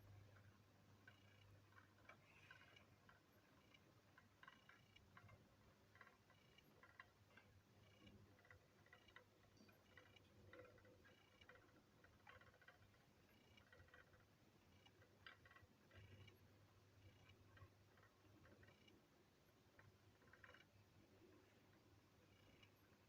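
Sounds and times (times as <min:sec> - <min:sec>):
faint small clicks: 0:00.0 - 0:19.0, 0:19.7 - 0:23.0.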